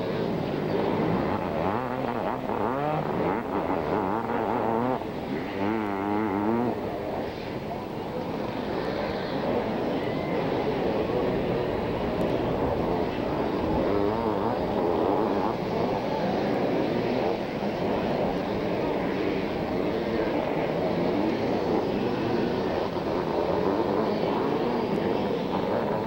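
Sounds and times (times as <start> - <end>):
motocross bikes racing: 0.0 - 26.0.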